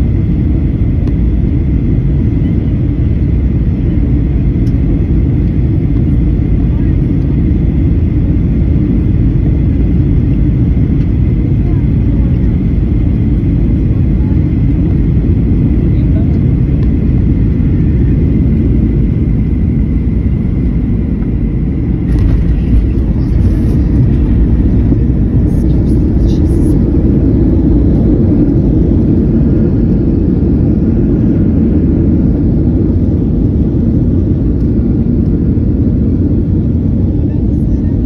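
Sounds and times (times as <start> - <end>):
jet engines and wheels rumbling: 0.0 - 38.0.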